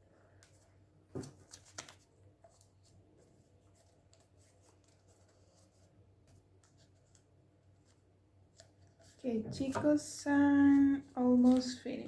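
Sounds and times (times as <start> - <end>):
paper rustling and crinkling: 0.4 - 10.0, 10.7 - 12.0.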